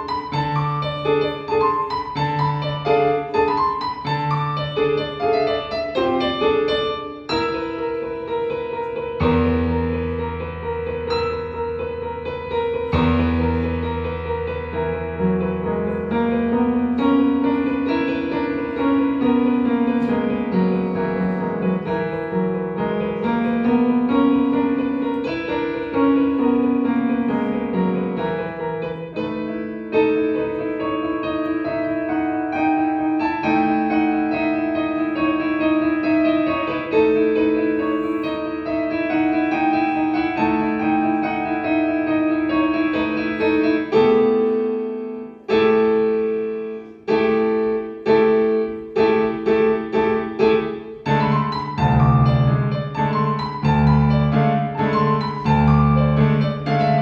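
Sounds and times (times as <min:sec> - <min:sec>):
solo piano: 0:00.0 - 0:57.0.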